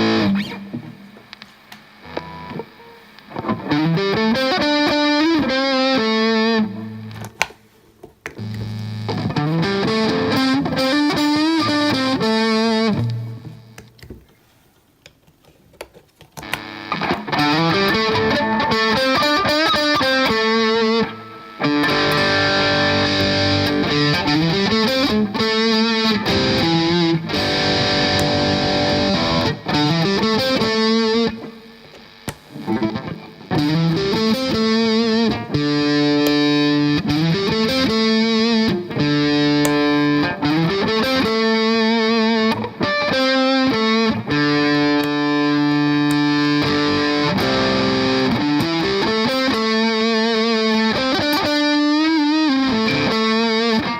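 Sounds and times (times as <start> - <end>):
distorted electric guitar: 0.0 - 14.0, 16.4 - 53.9.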